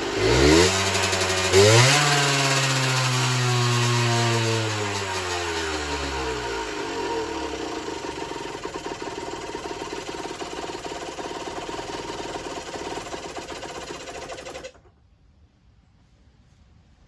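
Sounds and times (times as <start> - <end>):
small two-stroke engine running: 0.0 - 14.9.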